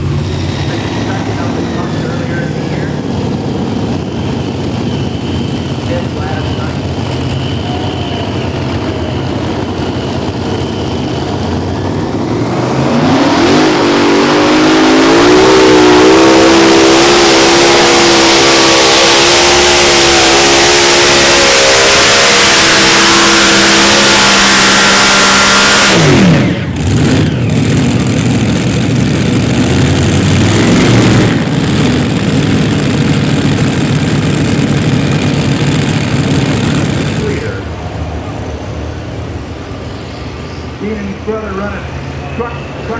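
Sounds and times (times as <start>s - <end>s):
diesel engine revving high: 0.0s - 42.9s
lower rougher engine noise: 0.0s - 42.9s.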